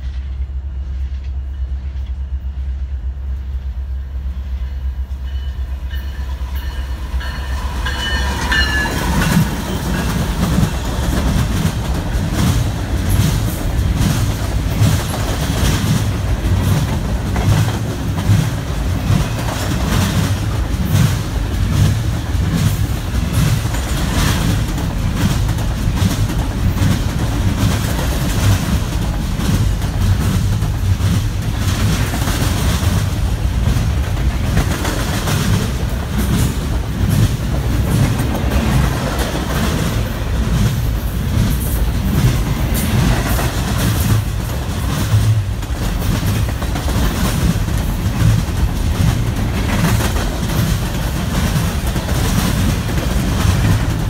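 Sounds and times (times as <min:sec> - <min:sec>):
train wheels clacking on rails: 0:04.2 - 0:54.0.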